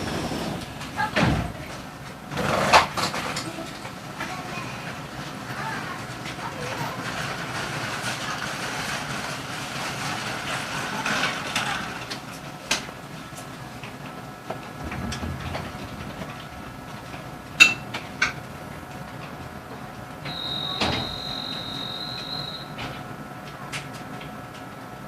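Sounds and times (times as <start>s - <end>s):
electric train equipment humming: 0.0s - 25.0s.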